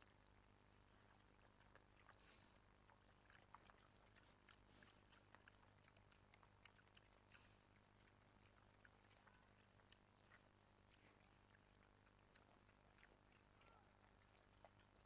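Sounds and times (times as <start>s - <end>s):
steady low hum: 0.0s - 15.0s
wild boar crunching and rooting: 0.0s - 15.0s.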